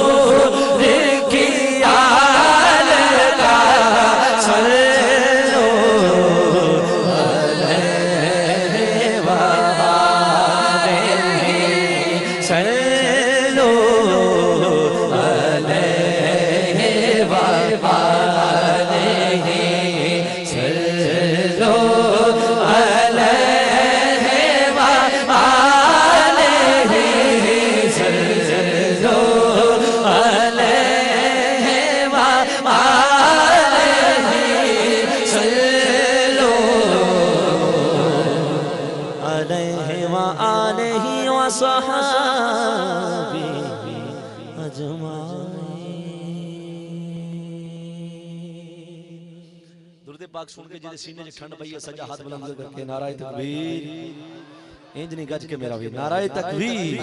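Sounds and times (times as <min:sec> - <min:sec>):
man singing into microphone: 0:00.0 - 0:49.3, 0:50.1 - 0:57.0.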